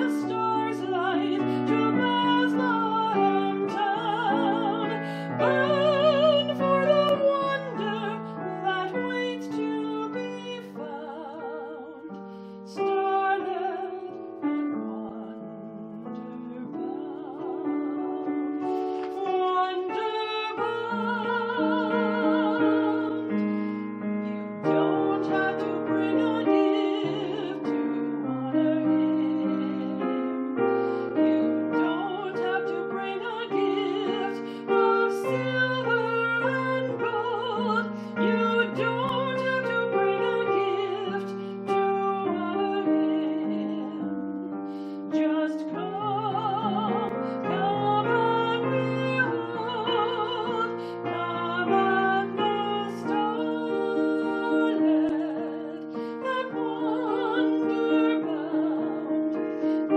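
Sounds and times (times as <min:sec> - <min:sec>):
piano accompaniment: 0:00.0 - 0:59.9
woman singing classical: 0:00.0 - 0:59.9.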